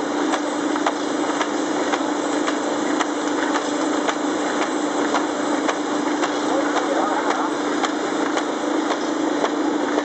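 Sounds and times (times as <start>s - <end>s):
laminating machine humming: 0.0s - 10.0s.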